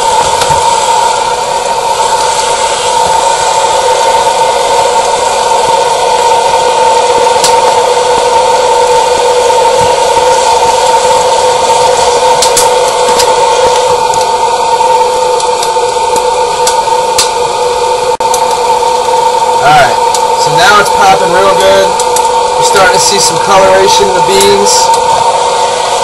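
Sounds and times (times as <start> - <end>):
popcorn popper blower fan rushing: 0.0 - 26.0.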